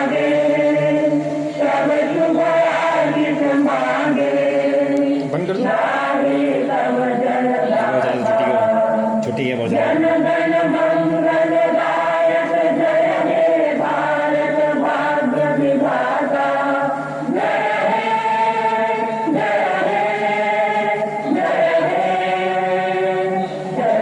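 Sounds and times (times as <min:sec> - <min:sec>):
group singing slow song: 0:00.0 - 0:24.0.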